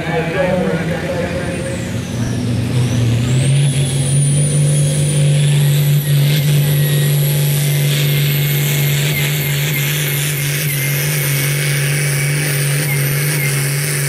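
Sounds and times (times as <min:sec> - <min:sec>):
high turbo whistle: 0:00.0 - 0:13.9
tractor diesel engine under load: 0:00.0 - 0:14.0.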